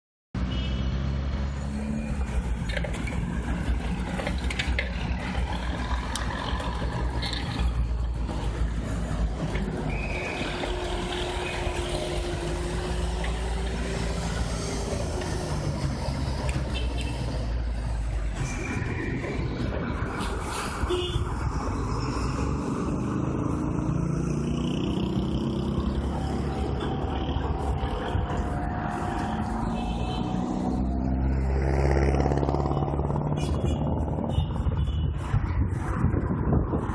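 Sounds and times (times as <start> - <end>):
cars driving past: 0.4 - 36.9
low traffic rumble: 0.4 - 36.9.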